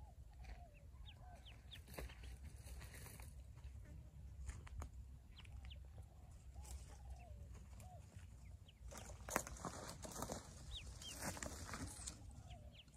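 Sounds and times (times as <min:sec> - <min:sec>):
ducklings peeping: 0:00.0 - 0:02.8, 0:05.2 - 0:12.9.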